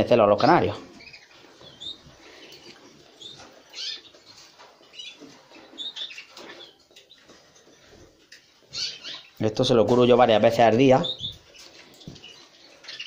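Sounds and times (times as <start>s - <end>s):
canaries chirping: 0.0s - 13.0s.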